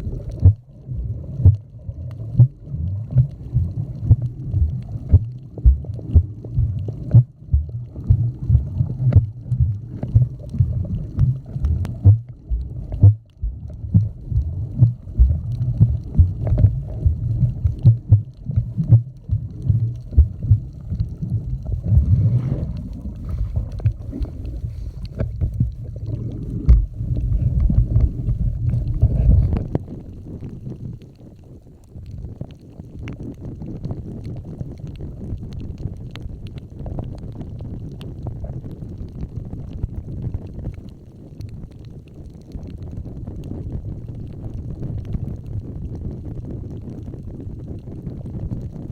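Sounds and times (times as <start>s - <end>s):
underwater rumbling and knocking: 0.0s - 48.9s
underwater thumps and gurgles: 0.0s - 48.9s.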